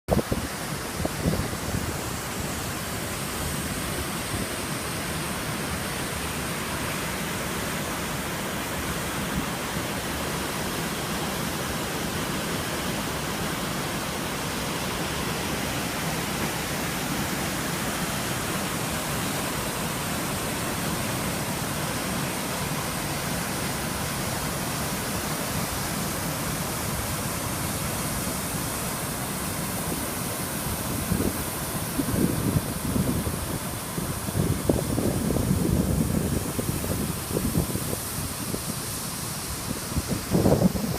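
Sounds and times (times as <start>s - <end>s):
waterfall rushing: 0.1s - 40.9s.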